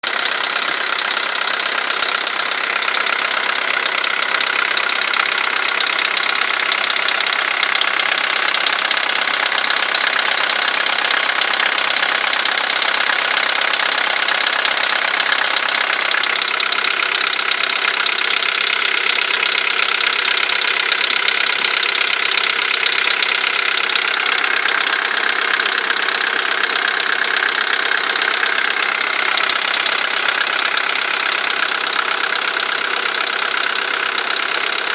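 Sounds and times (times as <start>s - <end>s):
diesel engine knocking and ticking: 0.0s - 34.9s.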